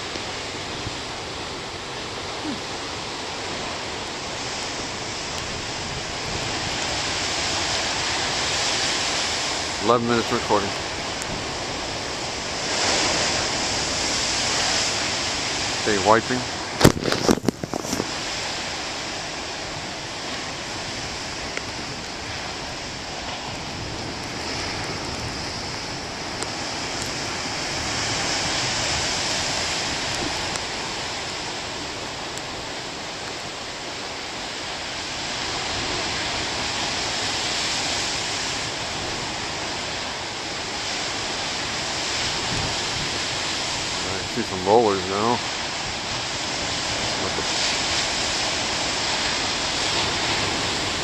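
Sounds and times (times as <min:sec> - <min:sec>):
ocean waves breaking on rocks: 0:00.0 - 0:51.0.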